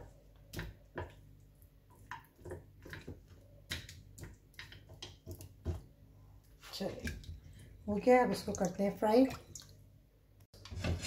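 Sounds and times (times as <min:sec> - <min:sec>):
wet squelches of hand mixing batter: 0:00.0 - 0:10.2.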